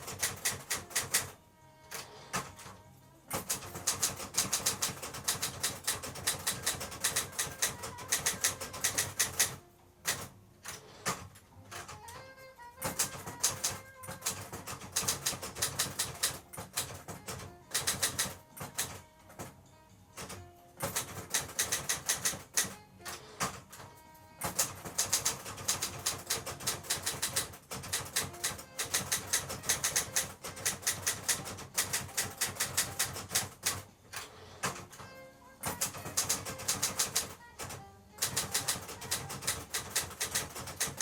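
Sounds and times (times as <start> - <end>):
typewriter key strikes: 0.0 - 19.6, 20.2 - 41.0.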